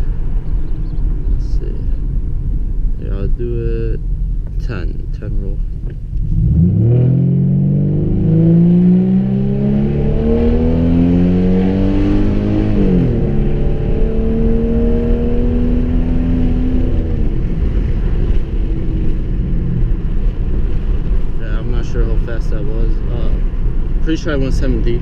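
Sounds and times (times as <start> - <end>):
car exhaust at full throttle: 0.0 - 25.0.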